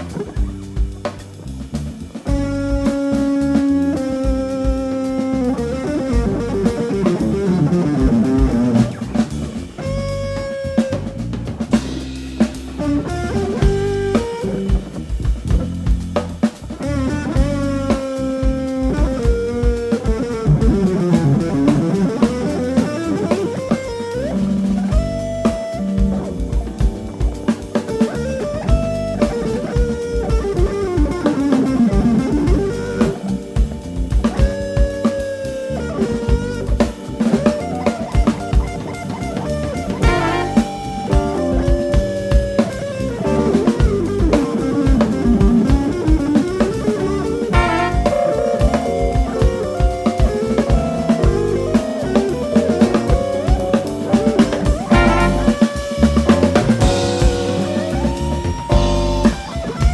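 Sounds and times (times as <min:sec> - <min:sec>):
bass guitar: 0:00.0 - 0:59.9
drum kit: 0:00.0 - 0:59.9
electric guitar melody: 0:00.0 - 0:59.9.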